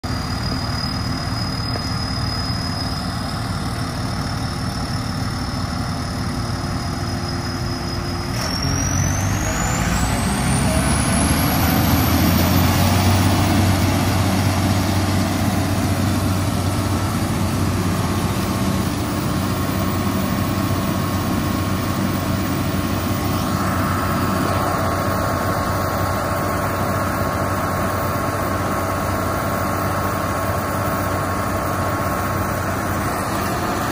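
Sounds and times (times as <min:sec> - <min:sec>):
diesel engine running: 0:00.0 - 0:33.9
hydraulic whine rising in pitch: 0:06.6 - 0:33.9.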